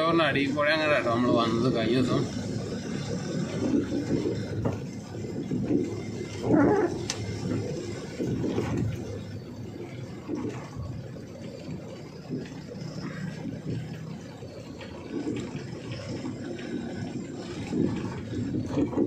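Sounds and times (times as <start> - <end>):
truck cab rumble: 0.0 - 19.0.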